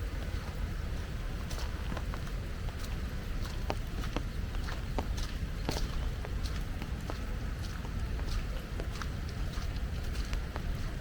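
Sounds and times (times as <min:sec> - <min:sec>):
footsteps: 0:00.0 - 0:11.0
raindrops tapping: 0:00.0 - 0:11.0.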